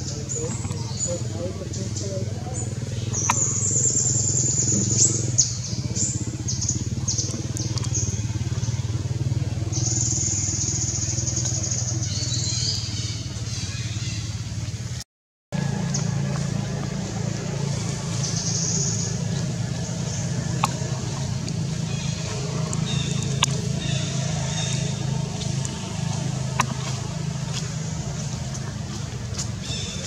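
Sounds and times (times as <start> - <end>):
low engine-like hum: 0.0 - 15.0, 15.6 - 30.0.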